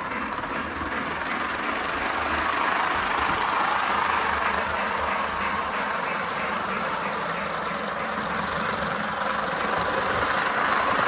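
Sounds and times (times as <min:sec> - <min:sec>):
toy train running on track: 0:00.0 - 0:11.0.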